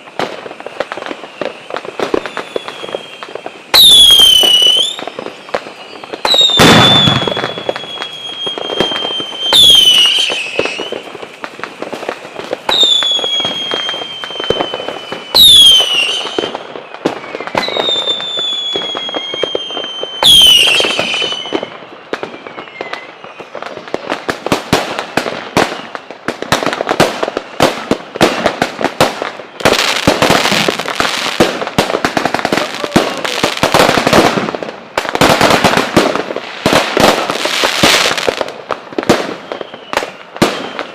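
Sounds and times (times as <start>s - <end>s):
firecrackers cracking rapidly: 0.0s - 40.9s
firework bangs: 0.0s - 40.9s
whistling firework shells: 0.0s - 40.9s.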